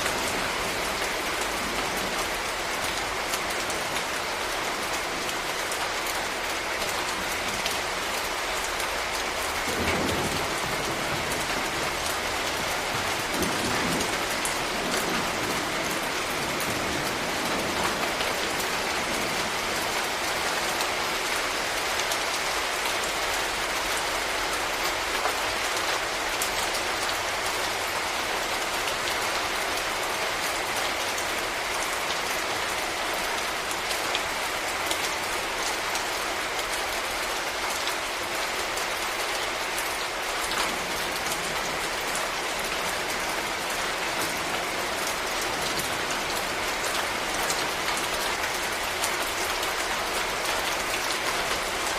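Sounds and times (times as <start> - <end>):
heavy rain on leaves: 0.0 - 51.9.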